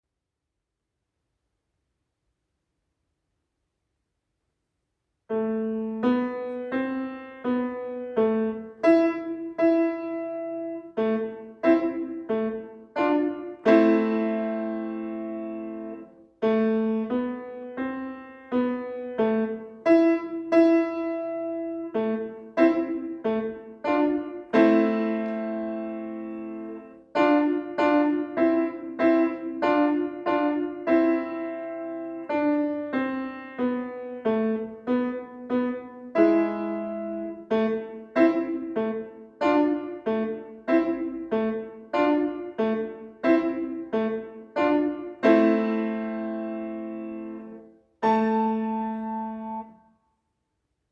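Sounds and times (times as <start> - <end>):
slow solo piano piece: 5.3 - 50.0.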